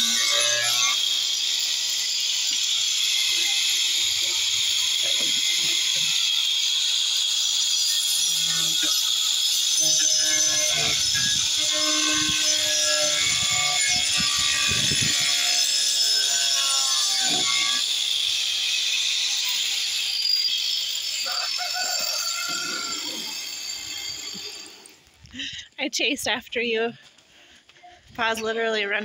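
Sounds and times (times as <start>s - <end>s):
angle grinder cutting tile: 0.0s - 25.0s.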